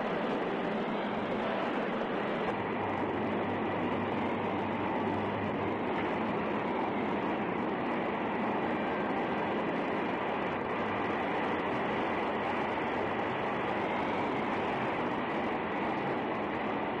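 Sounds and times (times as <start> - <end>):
low hum: 0.0 - 17.0
steam hissing from pipes: 0.0 - 17.0.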